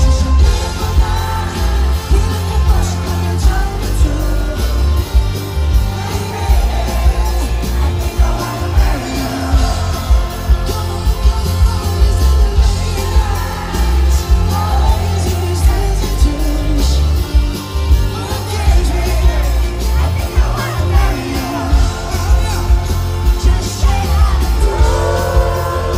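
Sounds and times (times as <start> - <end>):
heavy pulsing bass: 0.0 - 25.9
lead vocal singing: 0.0 - 25.9
live pop band music: 0.0 - 25.9.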